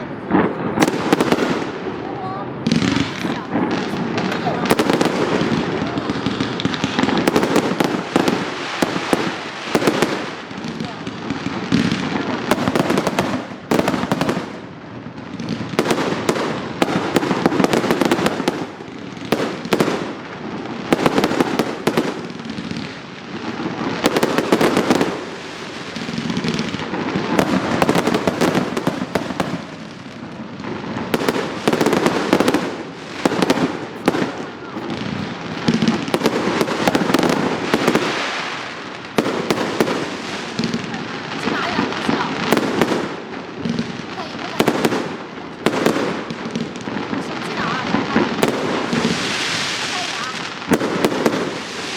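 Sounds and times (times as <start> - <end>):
fireworks crackling bursts: 0.0 - 51.9.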